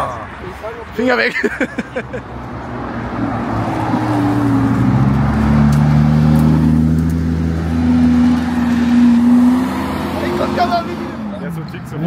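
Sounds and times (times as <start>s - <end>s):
cars passing with engine drone: 0.0s - 12.0s.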